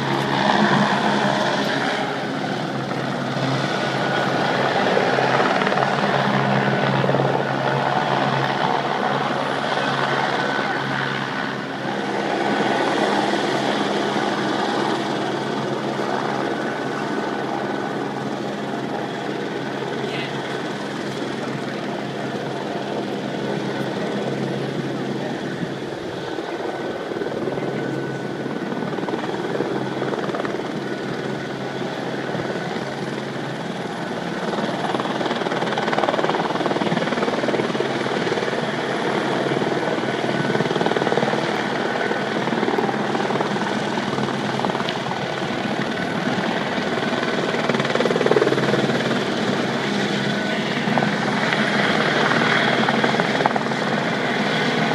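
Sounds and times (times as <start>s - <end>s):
helicopter rotor and engine drone: 0.0s - 54.9s.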